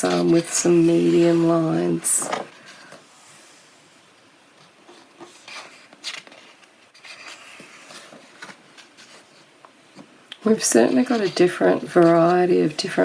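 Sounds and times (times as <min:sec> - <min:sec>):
paper pages rustling: 0:00.0 - 0:03.1, 0:04.6 - 0:13.0.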